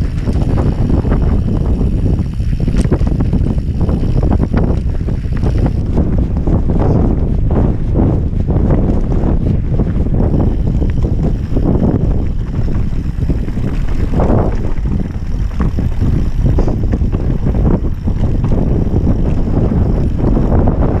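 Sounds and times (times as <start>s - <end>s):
bike knocks and rattles: 0.0s - 21.0s
wind buffeting microphone: 0.0s - 21.0s.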